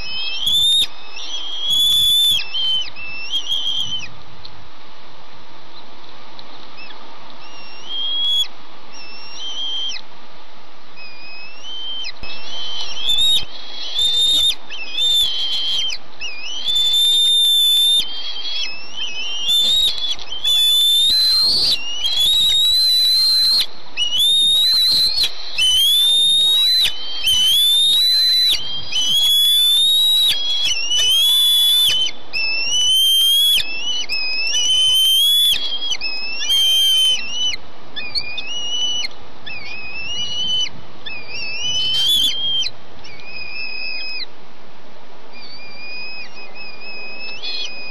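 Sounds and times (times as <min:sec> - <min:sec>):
eaglets whistled begging calls: 0:00.0 - 0:04.1, 0:06.8 - 0:10.0, 0:11.0 - 0:44.3, 0:45.3 - 0:47.9.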